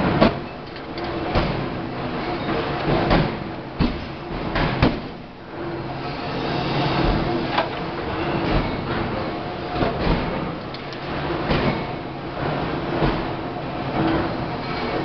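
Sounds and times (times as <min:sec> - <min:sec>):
forge-shop machinery noise: 0:00.0 - 0:15.0.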